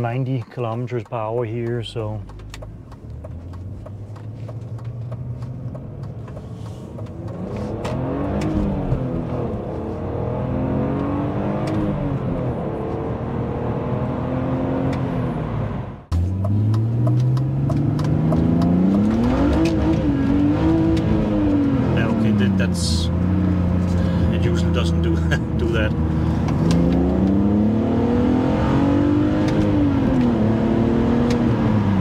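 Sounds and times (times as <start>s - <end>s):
car engine accelerating: 0.7s - 32.0s.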